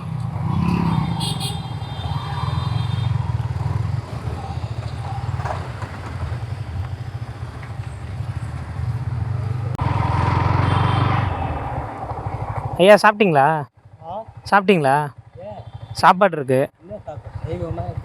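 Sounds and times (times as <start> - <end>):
motorcycle engine running: 0.0 - 13.1, 13.7 - 14.5, 15.1 - 16.0, 16.7 - 18.0.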